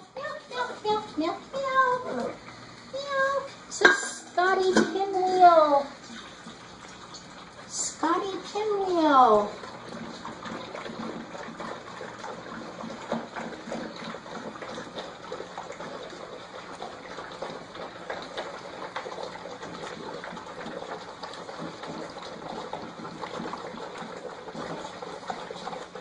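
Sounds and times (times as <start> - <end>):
puppies lapping and slurping: 0.0 - 26.0.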